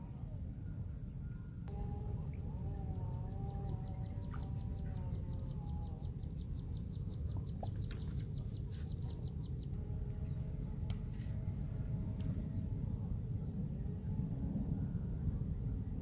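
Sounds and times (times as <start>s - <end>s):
lower wavering tone: 0.0s - 16.0s
steady low rumble: 0.0s - 16.0s.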